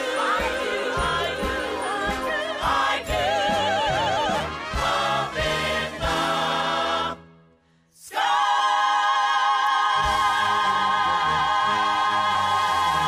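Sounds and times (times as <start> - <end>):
chorus singing with accompaniment: 0.0 - 7.3, 8.0 - 13.0.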